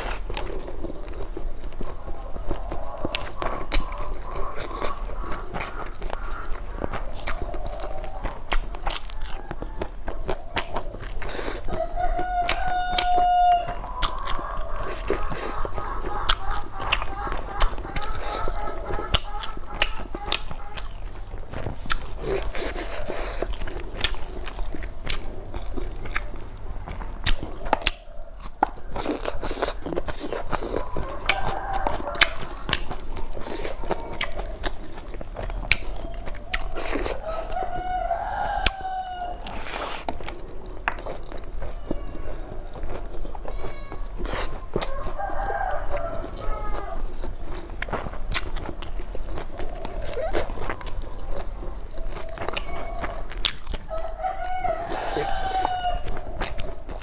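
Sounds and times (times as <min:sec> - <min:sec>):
chewing and crunching: 0:00.0 - 0:57.0.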